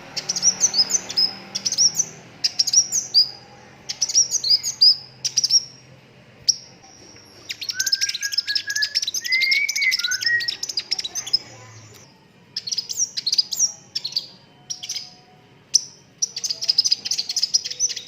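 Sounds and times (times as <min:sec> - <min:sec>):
sunbird chirps and trills: 0:00.1 - 0:05.9, 0:06.5 - 0:18.0.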